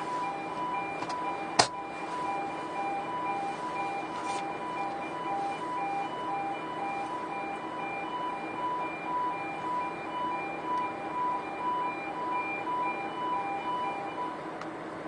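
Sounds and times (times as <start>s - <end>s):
alternating two-tone warning alarm: 0.0s - 14.4s.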